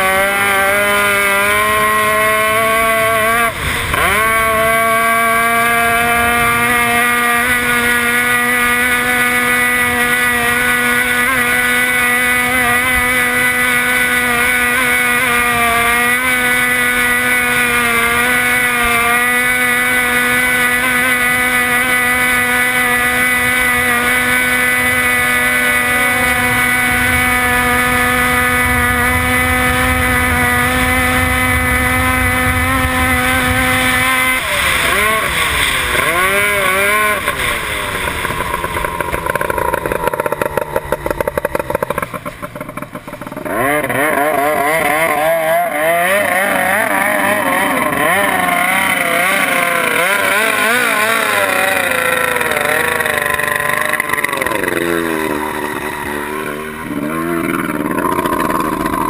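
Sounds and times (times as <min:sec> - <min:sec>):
outboard engine revving: 0:00.0 - 0:59.0.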